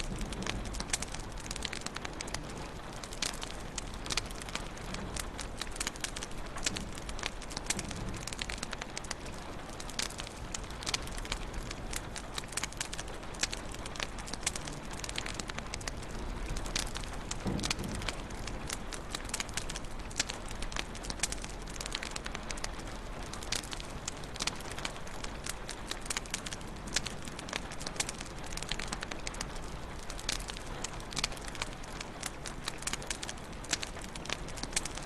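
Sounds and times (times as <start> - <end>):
sharp pops and snaps: 0.0 - 35.0
wood fire crackling: 0.0 - 35.0.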